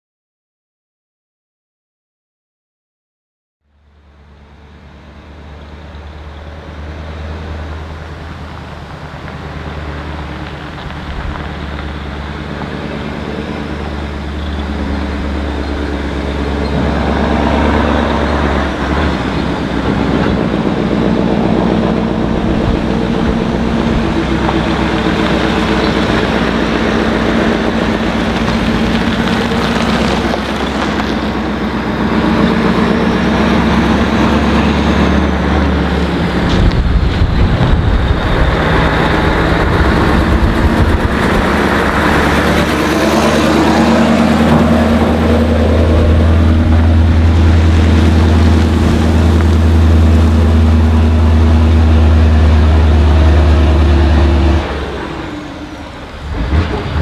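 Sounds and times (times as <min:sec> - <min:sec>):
truck diesel engine running: 0:03.7 - 0:57.0.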